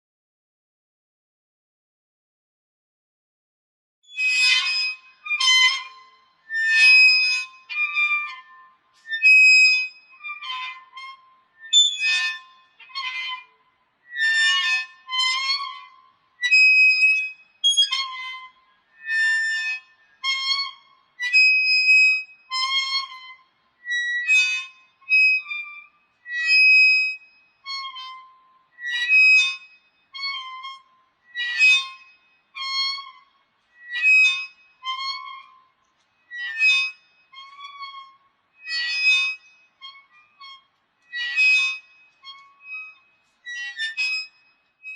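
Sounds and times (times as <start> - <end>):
swing squeaking: 4.1 - 44.9.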